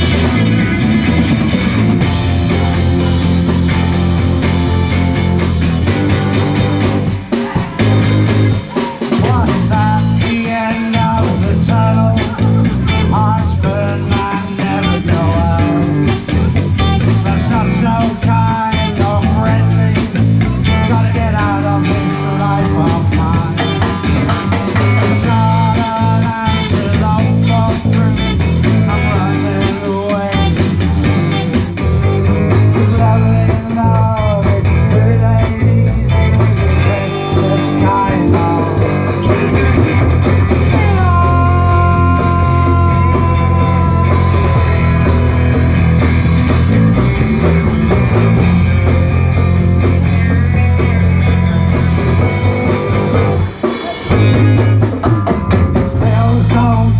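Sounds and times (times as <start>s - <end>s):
bass: 0.0s - 56.9s
drums: 0.0s - 56.9s
electric guitar melody: 0.0s - 56.9s.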